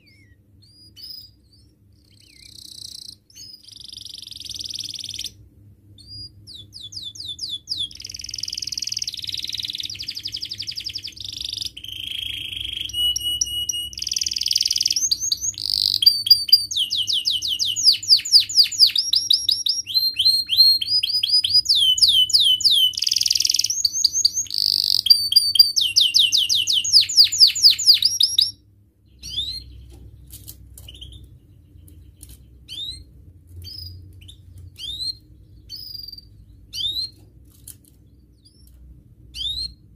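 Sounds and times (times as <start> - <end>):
canary singing trills: 0.0 - 37.3, 38.0 - 39.9.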